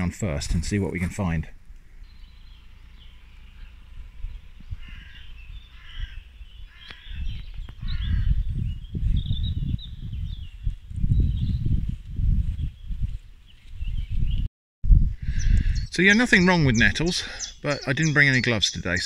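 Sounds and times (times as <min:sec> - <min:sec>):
woodland birds calling: 0:00.0 - 0:11.6, 0:15.2 - 0:19.0.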